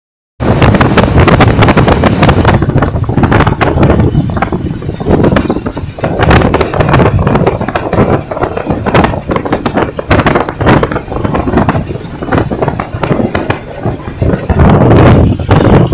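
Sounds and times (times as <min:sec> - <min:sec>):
motorcycle engine: 0:00.4 - 0:15.9
road noise: 0:00.4 - 0:15.9
wind buffeting microphone: 0:00.4 - 0:15.9.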